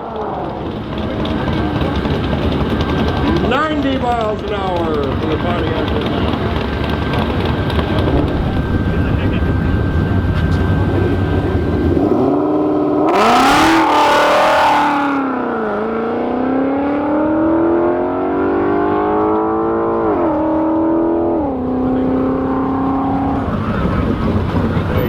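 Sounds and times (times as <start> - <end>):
drag car engine at full throttle: 0.0 - 25.0.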